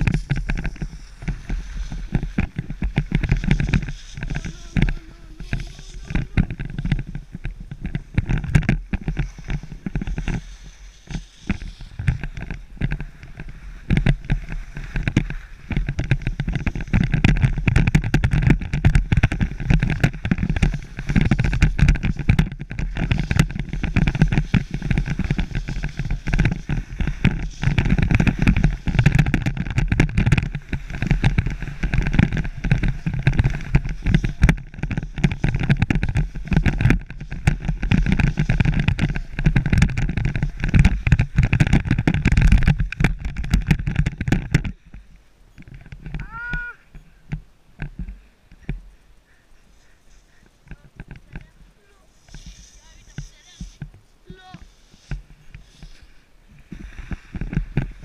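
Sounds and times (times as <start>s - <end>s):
wind buffeting microphone: 0.0s - 54.4s
skis scraping over snow: 0.0s - 58.0s.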